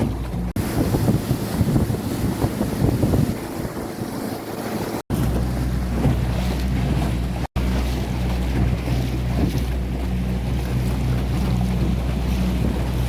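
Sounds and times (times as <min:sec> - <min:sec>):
boat engine hum: 0:00.0 - 0:13.0
water rushing: 0:00.0 - 0:13.0
wind buffeting microphone: 0:00.0 - 0:13.0.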